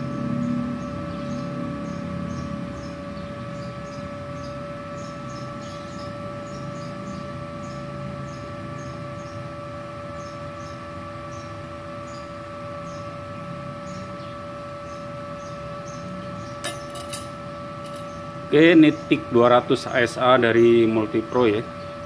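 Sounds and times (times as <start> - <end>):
welder humming and whining: 0.0 - 22.0.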